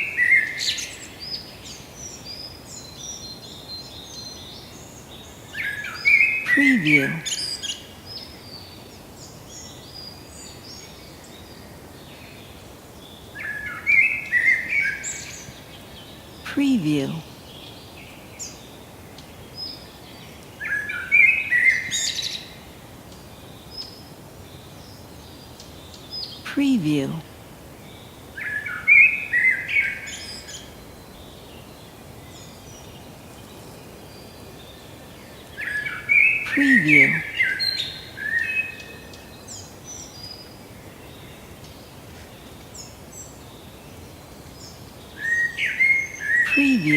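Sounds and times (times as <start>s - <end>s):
forest birds singing faintly: 0.0s - 46.9s
woodland background hiss: 0.0s - 46.9s.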